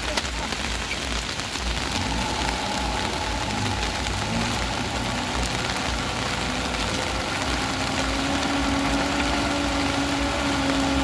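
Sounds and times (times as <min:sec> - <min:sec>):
rain falling: 0:00.0 - 0:11.0
truck engine running: 0:00.0 - 0:11.0
engine whine: 0:01.2 - 0:11.0.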